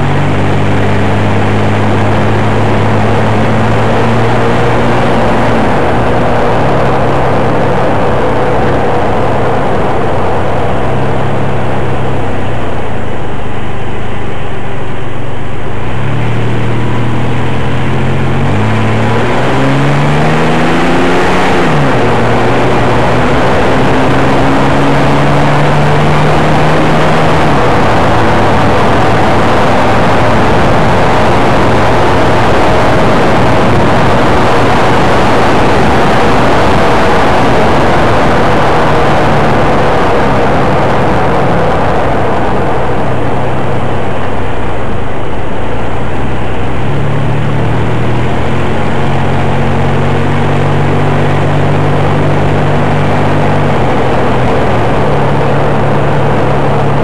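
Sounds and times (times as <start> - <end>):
truck engine revving: 0.0 - 13.8, 15.4 - 57.0
road and wind noise: 0.0 - 57.0.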